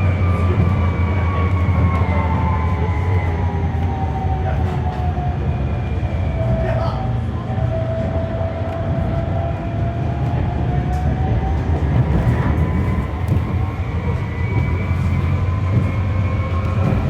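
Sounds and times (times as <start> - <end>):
tram rumble: 0.0 - 17.0.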